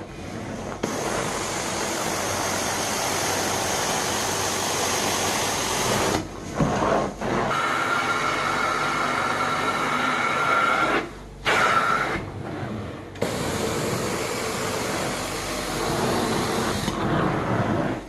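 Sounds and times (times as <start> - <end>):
carpet extractor suction: 0.0 - 18.0.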